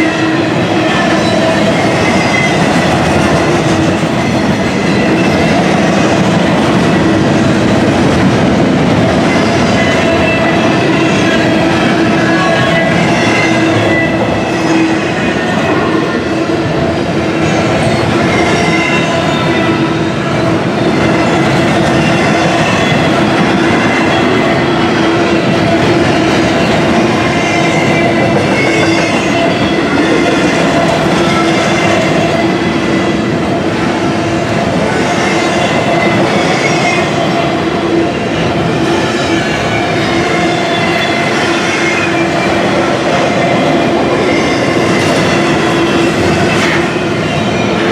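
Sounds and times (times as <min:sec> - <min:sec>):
train wheels squealing on rail: 0:00.0 - 0:47.9.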